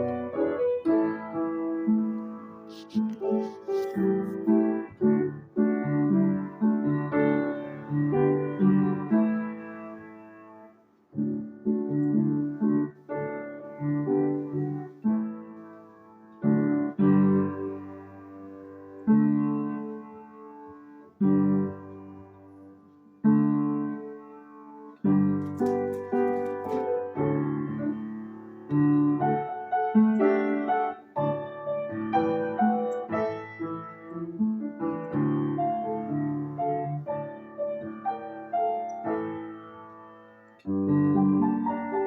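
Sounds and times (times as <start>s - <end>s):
piano chords: 0.0s - 42.0s.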